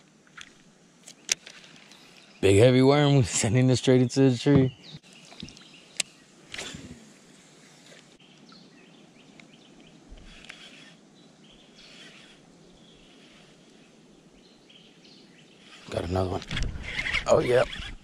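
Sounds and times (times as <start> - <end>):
faint birds chirping: 0.0 - 18.0
river-bank ambience: 0.0 - 18.0.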